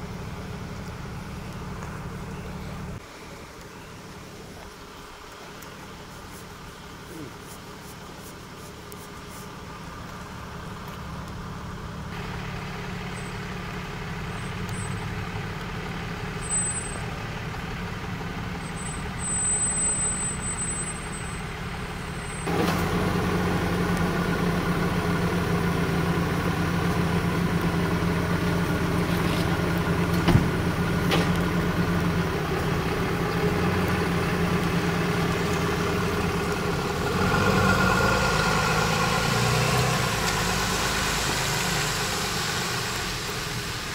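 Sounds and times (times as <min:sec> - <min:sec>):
truck engine idling: 0:00.0 - 0:43.9
rain on wet pavement: 0:03.0 - 0:43.9.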